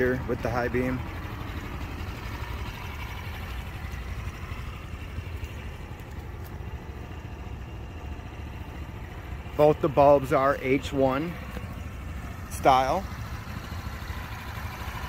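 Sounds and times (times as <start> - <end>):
scooter engine idling: 0.0 - 15.0.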